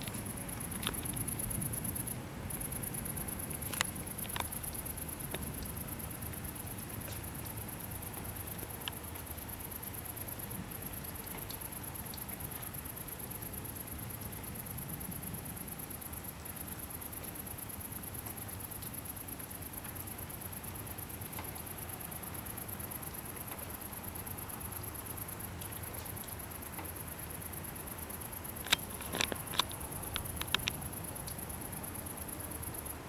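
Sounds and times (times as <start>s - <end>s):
microphone hiss and whine: 0.0s - 33.0s.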